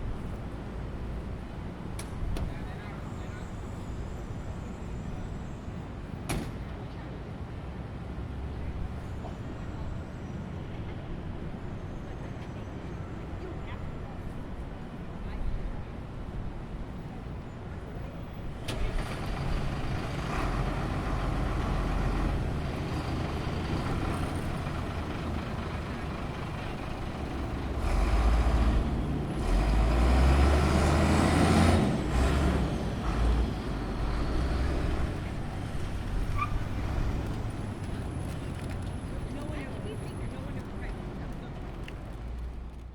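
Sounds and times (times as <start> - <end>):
heavy vehicle engine rumble: 0.0 - 42.9
traffic hum: 0.0 - 42.9.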